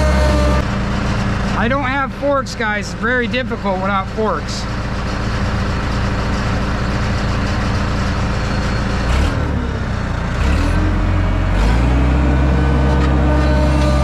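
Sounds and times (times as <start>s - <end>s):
skid steer loader engine: 0.0s - 14.0s.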